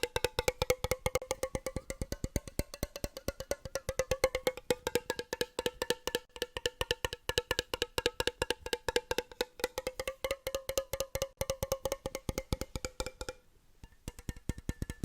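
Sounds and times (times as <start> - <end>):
fast tapping on resonant object: 0.0 - 15.0.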